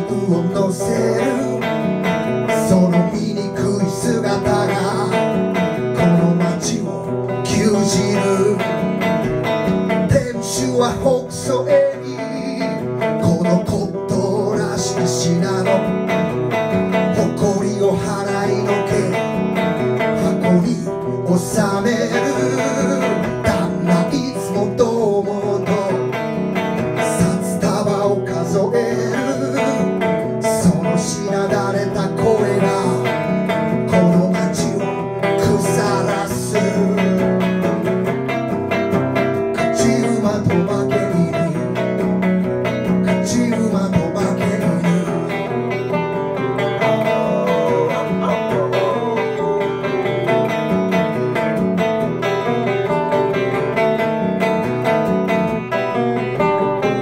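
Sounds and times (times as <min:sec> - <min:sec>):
electric guitar strumming: 0:00.0 - 0:57.0
man singing: 0:00.0 - 0:57.0.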